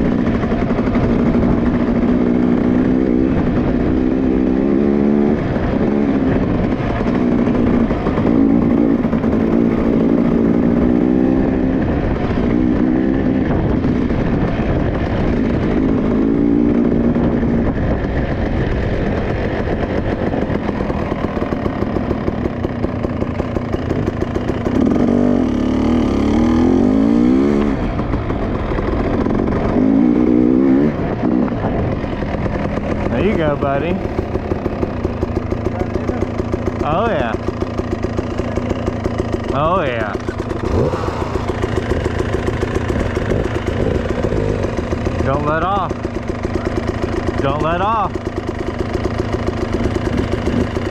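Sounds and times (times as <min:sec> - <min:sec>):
dirt bike engine revving: 0:00.0 - 0:18.2, 0:19.0 - 0:50.9.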